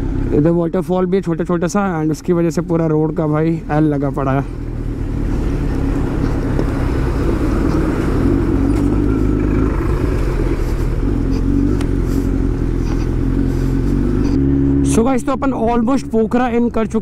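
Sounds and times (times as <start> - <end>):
motorcycle engine running: 0.0 - 17.0
tyre and road noise: 0.0 - 17.0.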